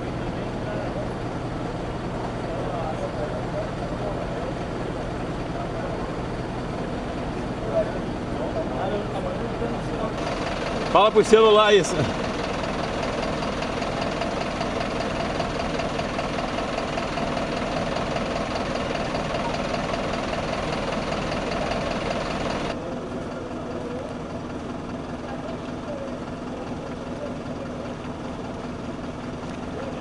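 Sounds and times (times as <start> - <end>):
bus diesel engine idling: 0.0 - 30.0.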